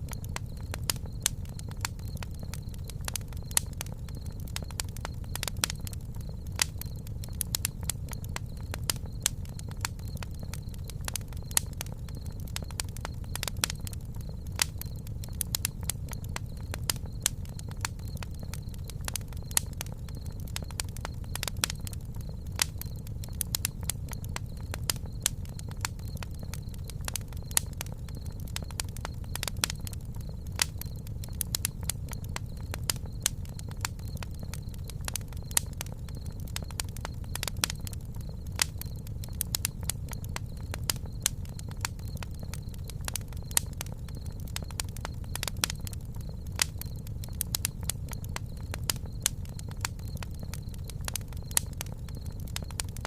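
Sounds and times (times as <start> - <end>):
campfire wood crackling and popping: 0.0 - 53.0
low rumble of flames: 0.0 - 53.0.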